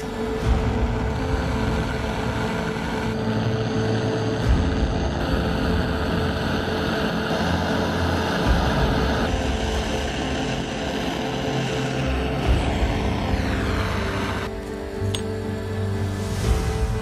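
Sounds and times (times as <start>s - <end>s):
gas torch flame blowing: 0.0s - 17.0s.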